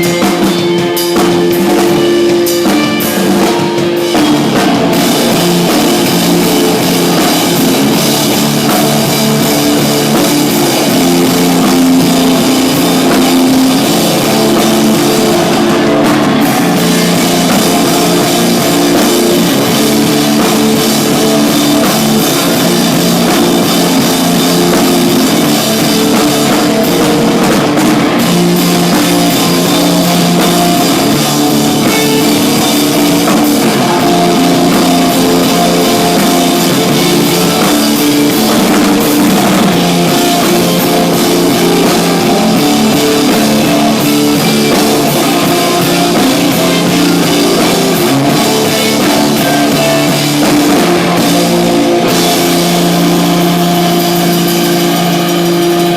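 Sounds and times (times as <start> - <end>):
drum kit: 0.0 - 55.9
guitar playing: 0.0 - 55.9.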